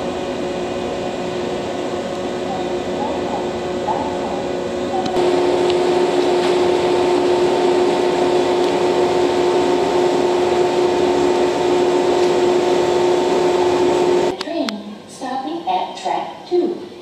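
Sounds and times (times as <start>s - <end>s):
electric train equipment humming: 0.0s - 17.0s.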